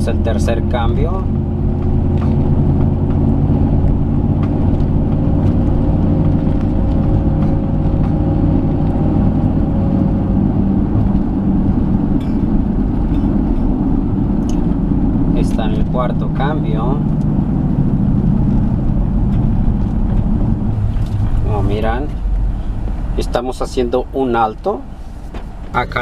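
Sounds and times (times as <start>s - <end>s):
car engine accelerating: 0.0s - 26.0s
road noise inside car: 0.0s - 26.0s.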